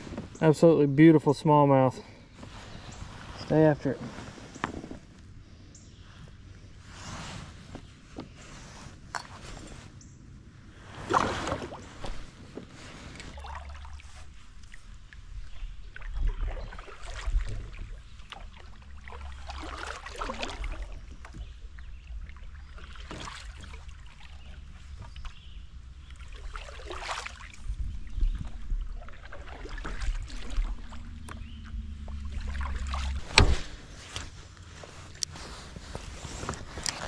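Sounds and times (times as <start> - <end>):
low steady rumble: 0.0 - 37.0
water splashing around kayak: 0.0 - 37.0.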